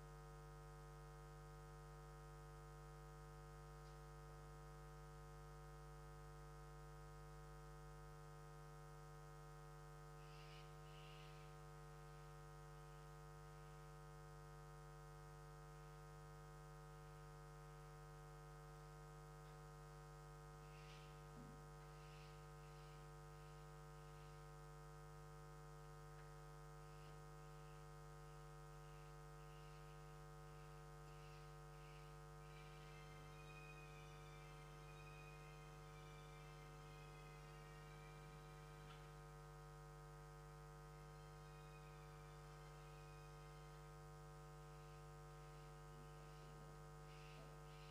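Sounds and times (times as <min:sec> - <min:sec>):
electrical mains hum: 0:00.0 - 0:47.9.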